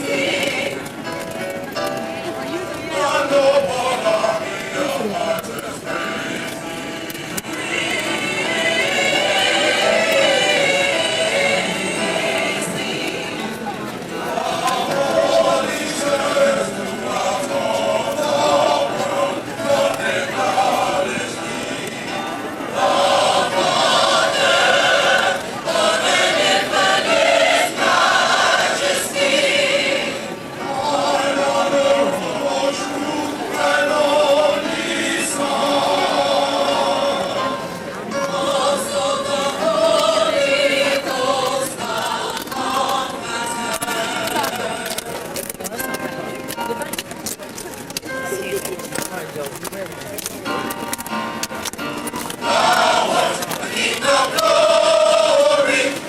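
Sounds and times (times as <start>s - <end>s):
choir singing: 0.0s - 1.0s, 2.8s - 45.1s, 52.2s - 56.0s.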